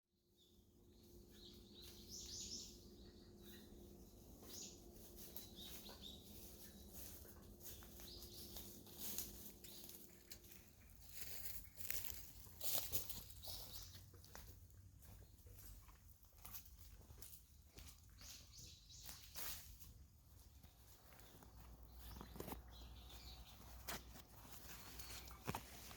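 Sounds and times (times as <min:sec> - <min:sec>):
small birds chirping: 0:00.3 - 0:25.9.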